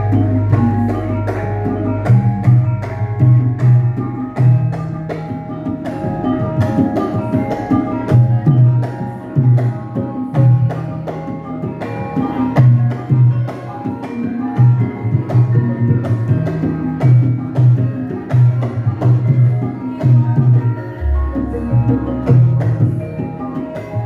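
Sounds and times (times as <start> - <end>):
hand drum strokes: 0.0 - 24.0.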